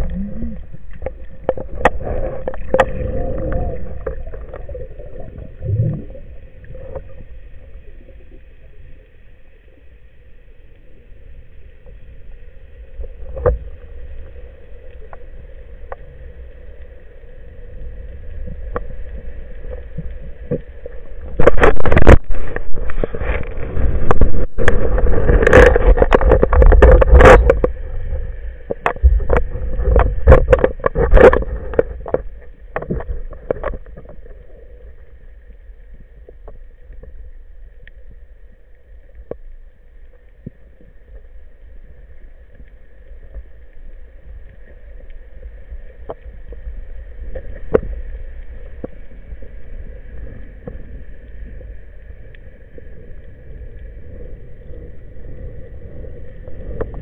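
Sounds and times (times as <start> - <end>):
steady hum with high whine: 0.0 - 57.0
water rushing underwater: 0.0 - 57.0.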